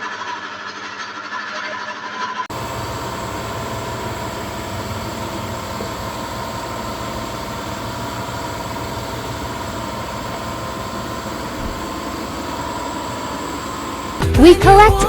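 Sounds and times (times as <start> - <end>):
machinery running: 2.5 - 15.0.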